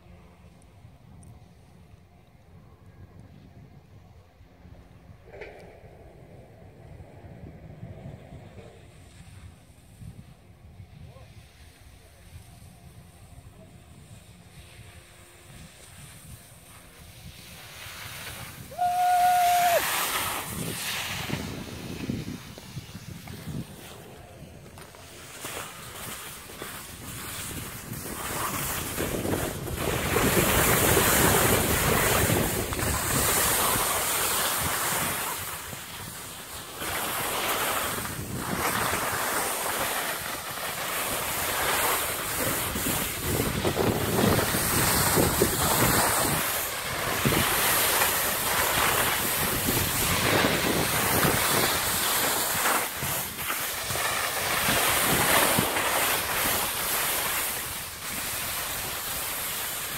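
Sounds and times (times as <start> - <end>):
wind rushing over microphone: 0.3 - 59.9
skis scraping over snow: 7.6 - 59.9.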